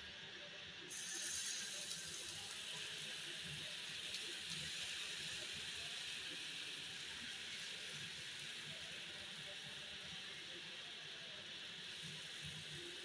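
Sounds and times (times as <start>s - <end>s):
batter sizzling on hot pan: 0.8s - 13.0s.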